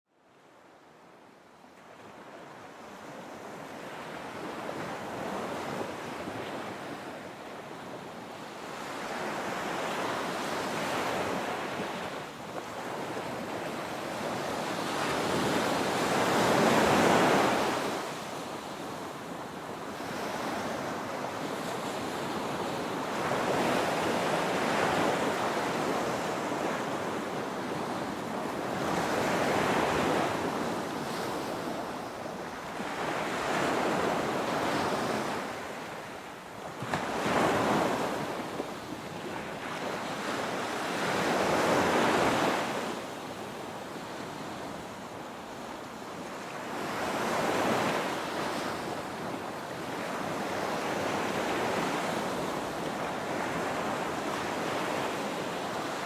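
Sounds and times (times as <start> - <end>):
ocean waves breaking on beach: 0.4 - 56.0.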